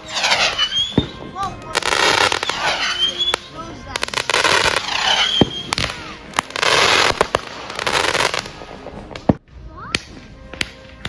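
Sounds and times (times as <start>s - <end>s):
crackling firework hiss: 0.0s - 11.0s
faint whistling fireworks: 0.0s - 11.0s
firework bangs: 0.0s - 11.0s.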